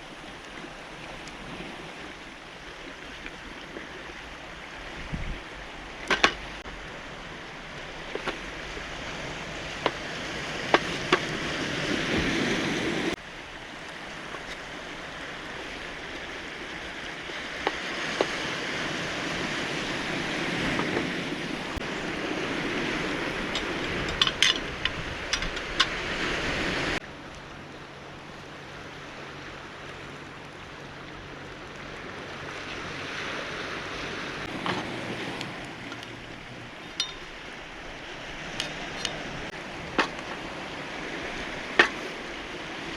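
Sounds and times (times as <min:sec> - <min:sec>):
waves washing on cobble shore: 0:00.0 - 0:42.9.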